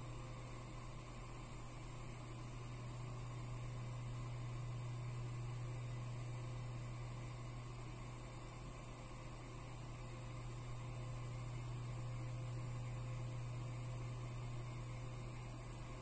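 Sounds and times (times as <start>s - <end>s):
computer equipment humming: 0.0s - 16.0s.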